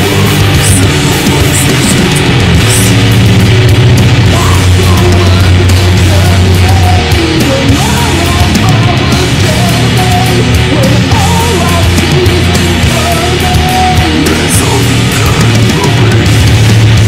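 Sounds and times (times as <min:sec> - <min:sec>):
loud metalcore band: 0:00.0 - 0:17.0.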